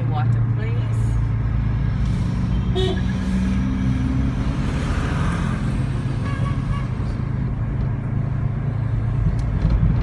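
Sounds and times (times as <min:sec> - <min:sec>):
car engine hum: 0:00.0 - 0:10.0
road noise: 0:00.0 - 0:10.0.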